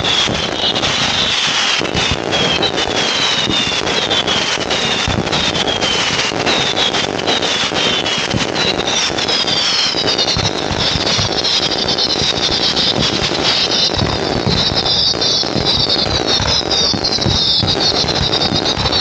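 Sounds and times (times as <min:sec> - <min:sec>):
fireworks crackling and popping: 0:00.0 - 0:19.0
fireworks falling whistles: 0:00.0 - 0:19.0.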